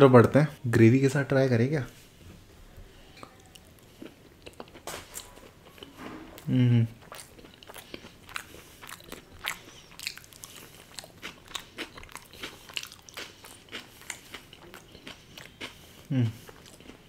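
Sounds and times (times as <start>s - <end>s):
person chewing food: 3.1s - 17.0s.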